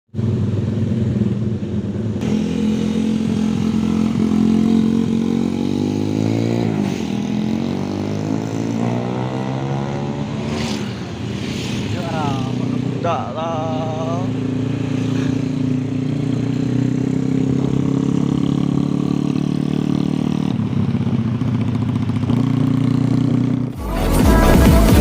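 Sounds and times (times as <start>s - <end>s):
motorcycle engine accelerating: 0.1s - 25.0s.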